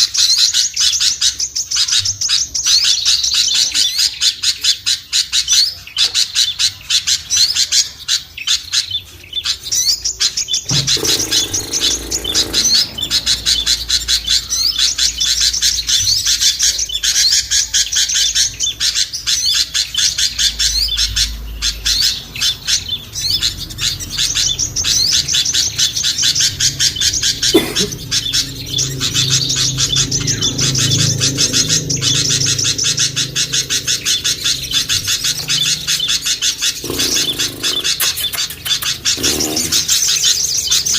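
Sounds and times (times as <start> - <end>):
low pulsing bird call: 0.0 - 40.9
songbirds chirping and calling: 0.0 - 40.9.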